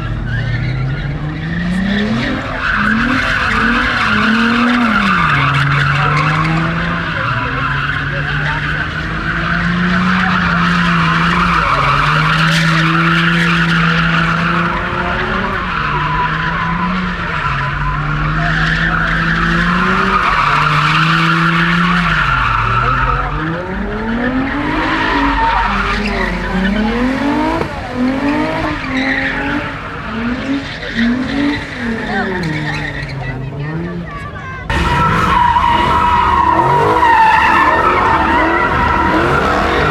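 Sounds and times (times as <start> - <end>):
car engine revving: 0.0 - 39.9
tires squealing: 0.0 - 39.9.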